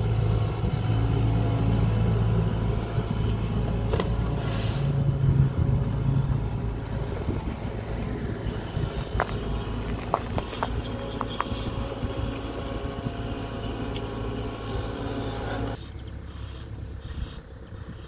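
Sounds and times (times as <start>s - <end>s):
diesel engine running: 0.0s - 17.6s.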